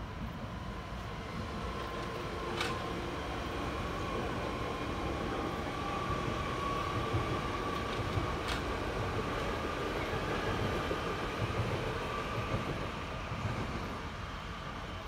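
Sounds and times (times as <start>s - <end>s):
passenger train rumble: 0.0s - 15.0s.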